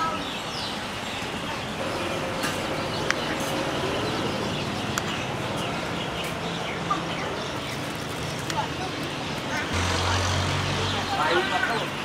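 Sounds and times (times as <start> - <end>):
background hubbub: 0.0 - 12.0
birds chirping: 0.0 - 12.0.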